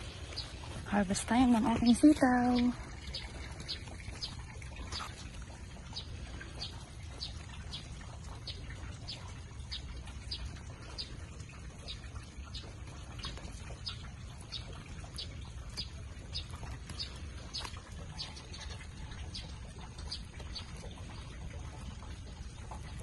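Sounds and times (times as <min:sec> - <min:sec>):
bird chirping: 0:00.0 - 0:22.0
rain falling: 0:00.0 - 0:23.0.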